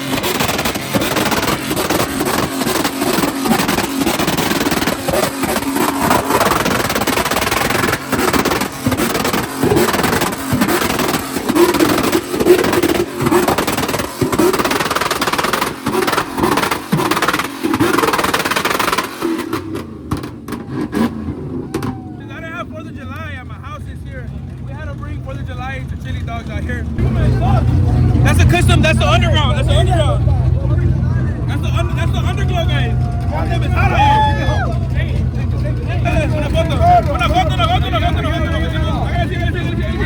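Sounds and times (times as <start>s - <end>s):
vehicle engine revving: 0.0s - 40.0s.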